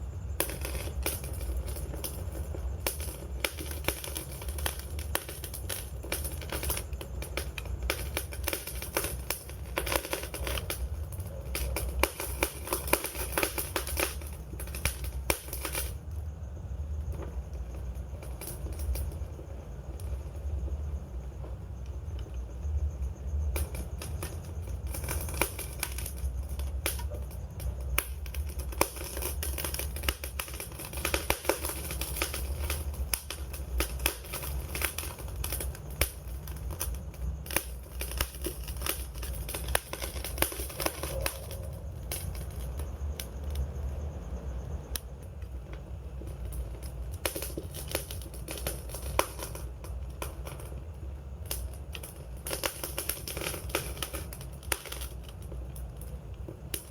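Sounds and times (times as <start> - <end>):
burning wood crackling: 0.0 - 56.9
low rumble of flames: 0.0 - 56.9.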